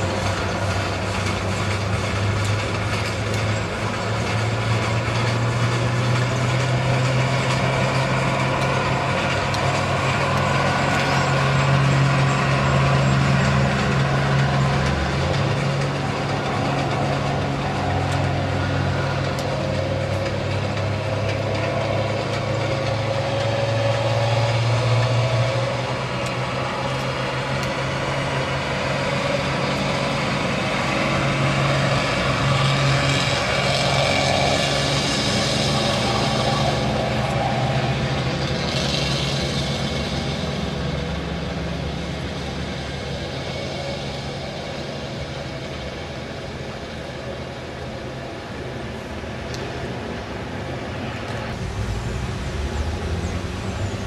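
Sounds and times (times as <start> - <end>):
steam locomotives working: 0.0 - 54.0.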